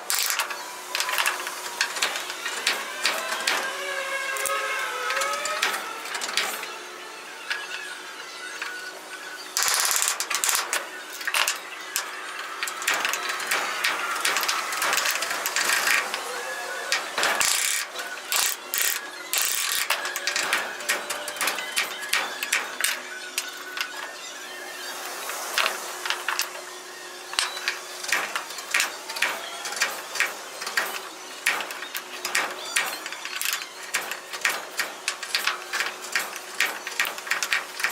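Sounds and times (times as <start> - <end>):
hand tools clicking and rattling: 0.0 - 6.8, 9.6 - 24.3, 25.2 - 26.6, 27.3 - 37.9.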